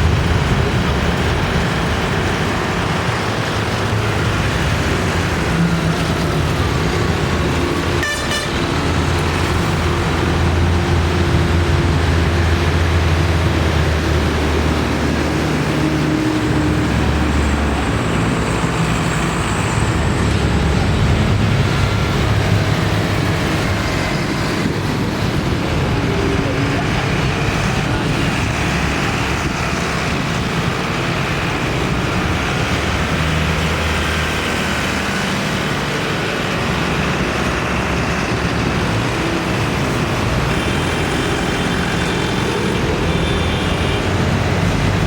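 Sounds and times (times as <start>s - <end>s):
tractor engines droning: 0.0s - 45.0s.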